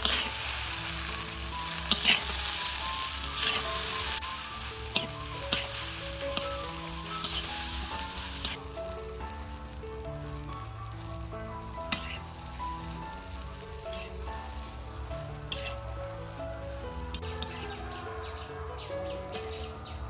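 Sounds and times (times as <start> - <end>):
metal spatula stirring: 0.0 - 8.7, 11.0 - 18.2, 19.3 - 19.8
noodles sizzling in a wok: 0.0 - 20.0.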